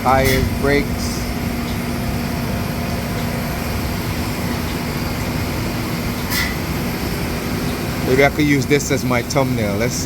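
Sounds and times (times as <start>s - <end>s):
machinery drone: 0.0s - 10.0s.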